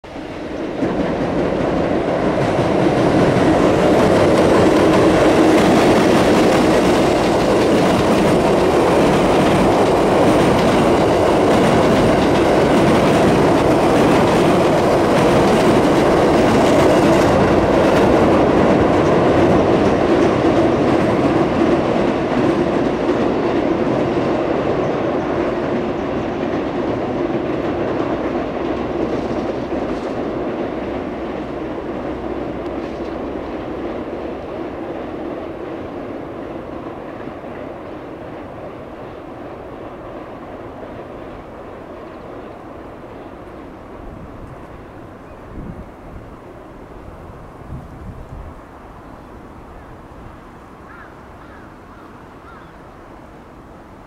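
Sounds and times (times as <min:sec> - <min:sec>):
train wheels rumbling on bridge: 0:00.0 - 0:54.0
clickety-clack over rail joints: 0:00.1 - 0:48.8.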